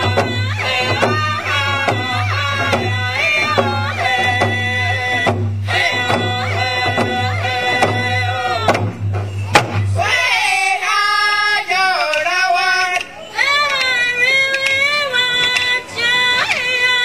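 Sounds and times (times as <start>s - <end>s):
women and children singing: 0.0s - 17.0s.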